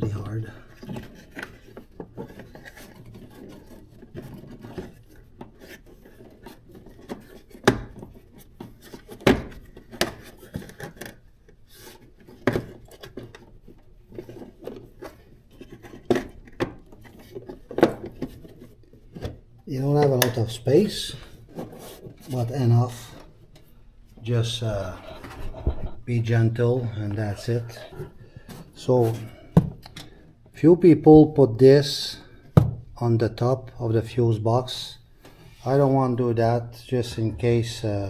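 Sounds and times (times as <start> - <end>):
rubbing and scraping handling noise: 0.0 - 38.0.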